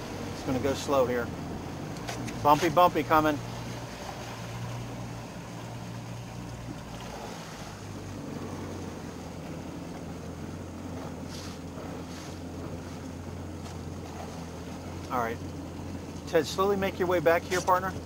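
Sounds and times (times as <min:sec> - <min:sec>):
boat engine humming: 0:00.0 - 0:18.0
water noise: 0:00.0 - 0:18.0
wind: 0:00.0 - 0:18.0.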